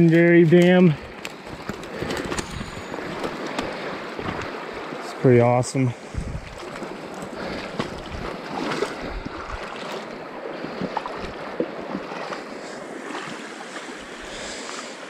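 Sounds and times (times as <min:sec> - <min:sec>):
stream water rushing over dam: 0:00.0 - 0:15.0.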